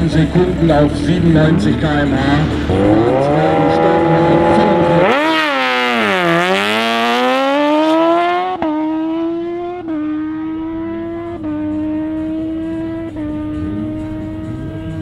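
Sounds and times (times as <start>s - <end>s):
motorcycle engine revving with upshifts: 0.0s - 15.0s.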